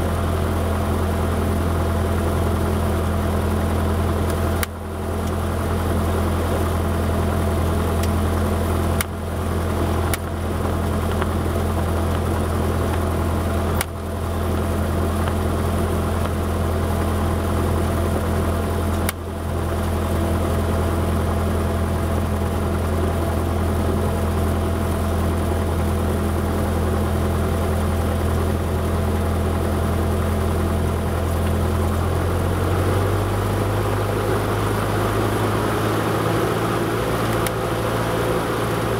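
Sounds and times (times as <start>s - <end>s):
airplane engine droning: 0.0s - 38.9s.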